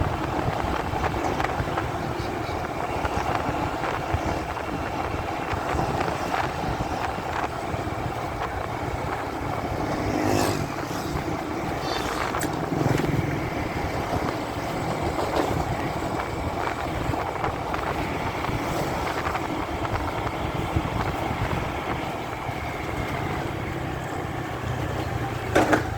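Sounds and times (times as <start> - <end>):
muffled motorcycle engine: 0.0 - 25.9
wind and road noise: 0.0 - 25.9.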